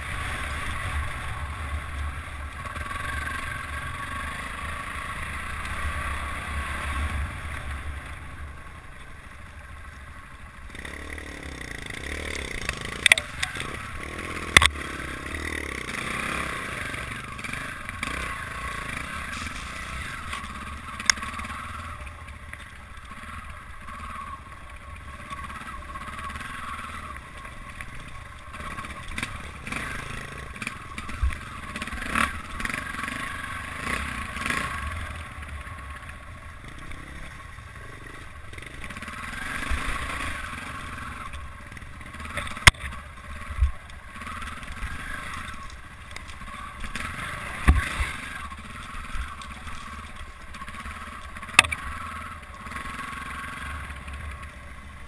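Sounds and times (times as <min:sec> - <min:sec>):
off-road motorcycle engine: 0:00.0 - 0:55.0.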